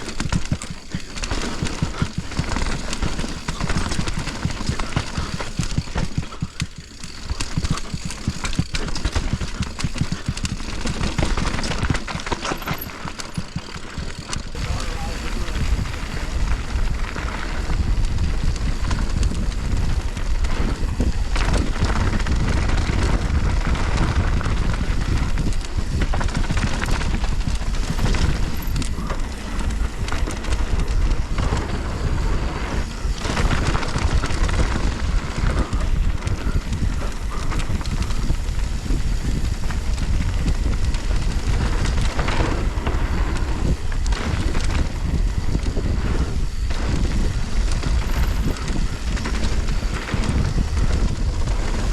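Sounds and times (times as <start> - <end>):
bike clattering over bumps: 0.0 - 51.9
bike tyre rumble: 0.0 - 51.9
wind noise on microphone: 0.0 - 51.9.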